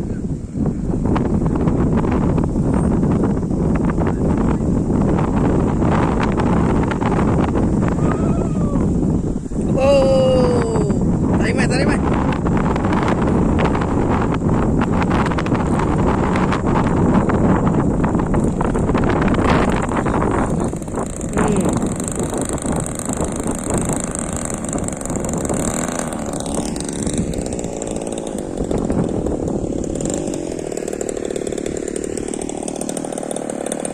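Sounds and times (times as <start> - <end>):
model airplane engine running: 0.0 - 8.2, 8.8 - 33.9
wind buffeting microphone: 0.0 - 33.9.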